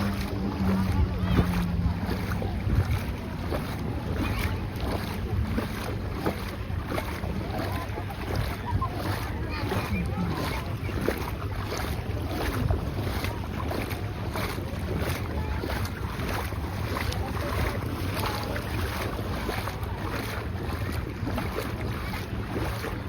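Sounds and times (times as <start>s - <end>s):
sea surf: 0.0s - 23.0s
wind buffeting microphone: 0.0s - 23.0s.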